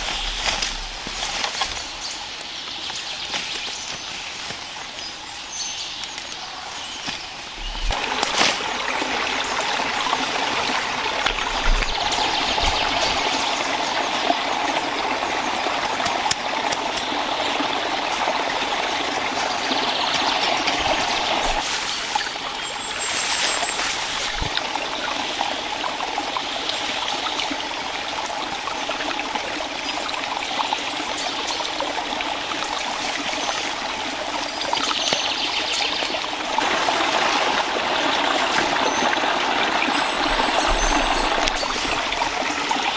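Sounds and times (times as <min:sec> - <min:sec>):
stream trickling: 0:00.0 - 0:42.9.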